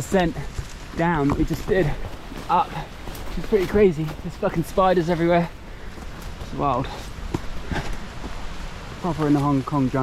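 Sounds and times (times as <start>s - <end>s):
light knocks and rustles: 0.4s - 8.4s.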